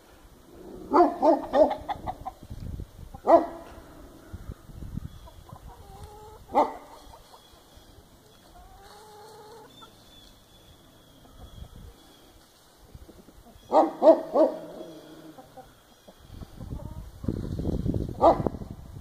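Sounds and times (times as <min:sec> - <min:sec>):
chickens clucking and squawking: 0:00.2 - 0:19.0.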